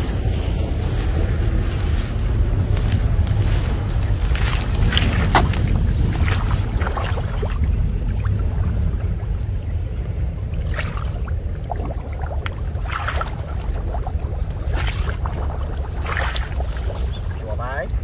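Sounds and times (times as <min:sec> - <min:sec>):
water sloshing and splashing: 0:00.0 - 0:17.8
wind rumble on microphone: 0:00.0 - 0:18.0.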